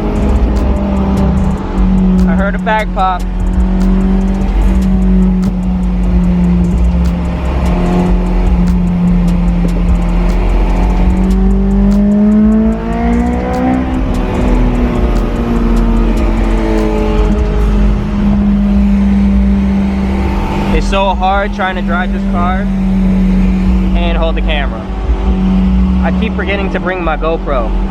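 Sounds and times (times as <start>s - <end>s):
car engine revving while driving: 0.0s - 27.9s.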